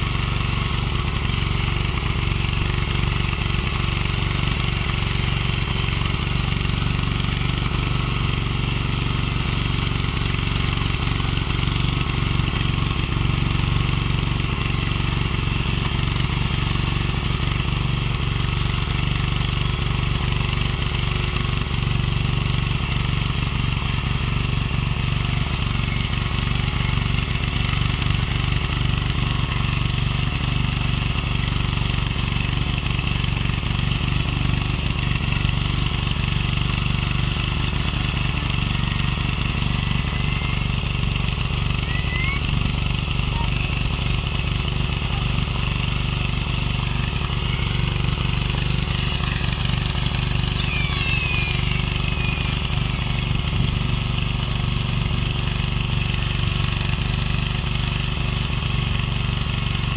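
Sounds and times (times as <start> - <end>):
tiller engine running: 0.0 - 59.9.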